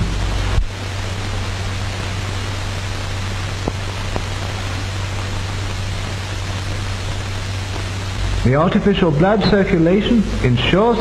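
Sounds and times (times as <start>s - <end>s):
film soundtrack hiss: 0.0s - 11.0s
low hum: 0.0s - 11.0s.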